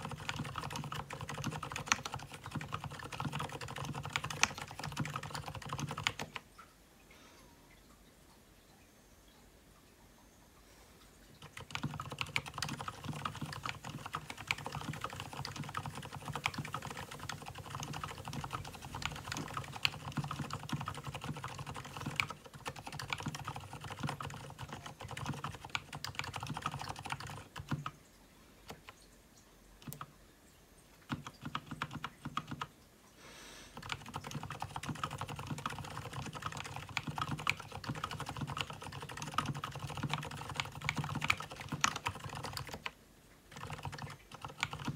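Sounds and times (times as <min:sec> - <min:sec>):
mechanical keyboard typing: 0:00.0 - 0:06.4, 0:11.4 - 0:28.0, 0:28.7 - 0:29.0, 0:29.8 - 0:30.1, 0:31.0 - 0:32.7, 0:33.8 - 0:44.9.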